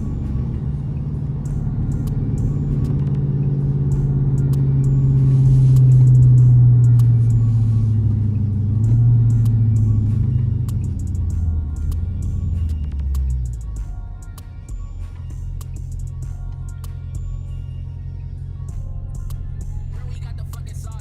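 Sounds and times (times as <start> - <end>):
car engine drone in cabin: 0.0 - 21.0.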